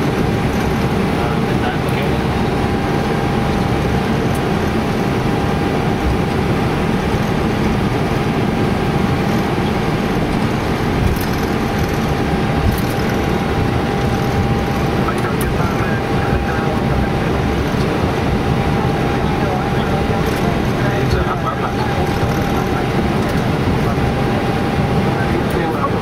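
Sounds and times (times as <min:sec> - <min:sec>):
airliner cockpit rumble and hiss: 0:00.0 - 0:26.0
thin steady whine: 0:00.0 - 0:26.0.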